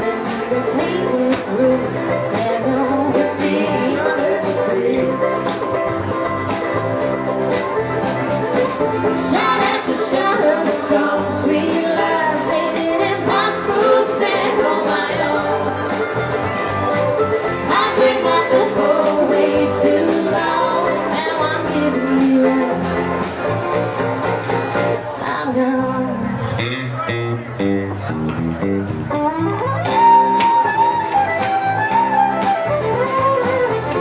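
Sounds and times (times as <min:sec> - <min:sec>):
drum kit: 0:00.0 - 0:25.2, 0:27.4 - 0:34.0
acoustic guitar: 0:00.0 - 0:34.0
electric bass: 0:00.0 - 0:34.0
mandolin: 0:00.0 - 0:34.0.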